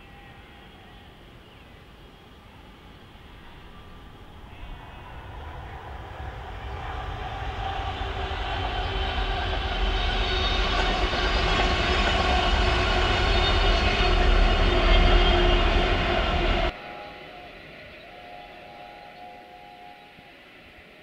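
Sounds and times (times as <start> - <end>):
diesel locomotives rumbling: 2.7 - 20.0.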